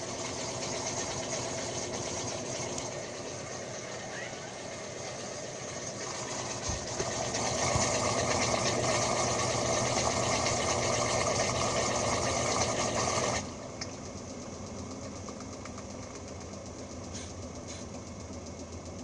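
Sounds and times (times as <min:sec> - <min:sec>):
washing machine running: 0:00.0 - 0:19.0.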